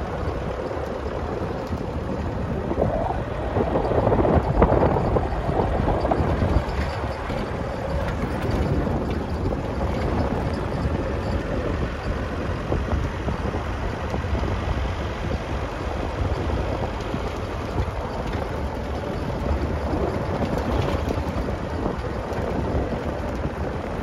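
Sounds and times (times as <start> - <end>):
vehicle driving on dirt track: 0.0 - 24.0
wind on microphone: 0.0 - 24.0.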